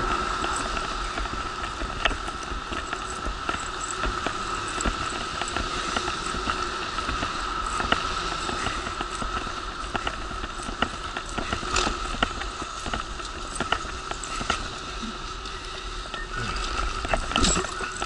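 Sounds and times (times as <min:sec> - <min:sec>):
wheelchair clicks and rattles: 0:00.0 - 0:18.0
wheelchair humming with whine: 0:00.0 - 0:18.0.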